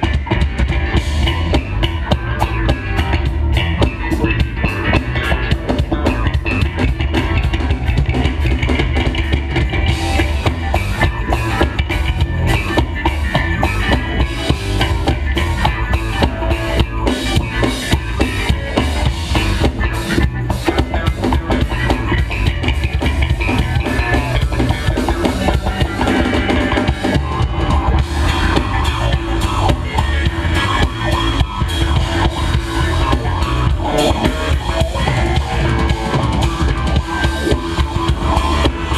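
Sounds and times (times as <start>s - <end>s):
drum kit: 0.0s - 38.9s
guitar: 0.0s - 38.9s
live funk band playing: 0.0s - 38.9s.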